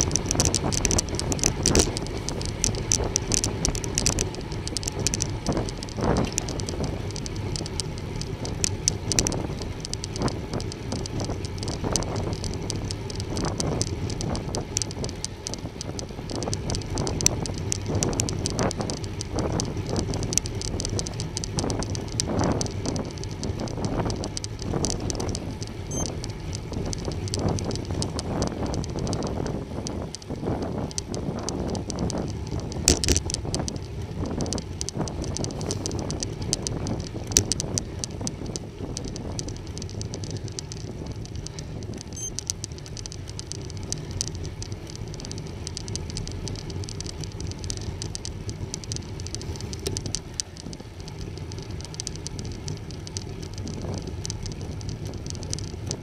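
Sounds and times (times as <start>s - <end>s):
bike clicks and rattles: 0.0s - 56.0s
bike tyre noise on road: 0.0s - 56.0s
wind noise on microphone: 0.0s - 56.0s.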